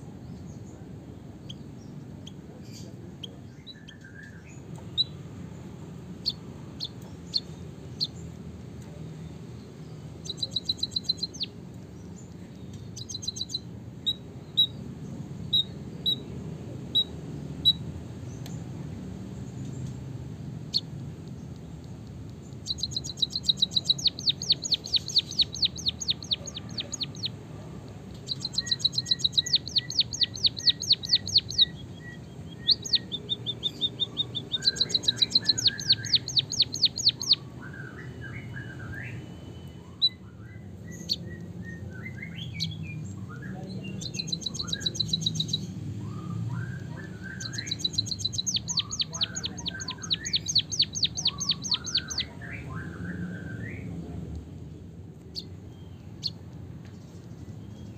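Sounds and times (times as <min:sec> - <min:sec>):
soft bird twittering: 0:00.3 - 0:05.2, 0:06.2 - 0:14.8, 0:19.4 - 0:54.0, 0:55.3 - 0:57.9
bird trilling song: 0:01.4 - 0:05.2, 0:06.2 - 0:08.3, 0:09.5 - 0:14.8, 0:20.6 - 0:53.9, 0:55.3 - 0:57.9.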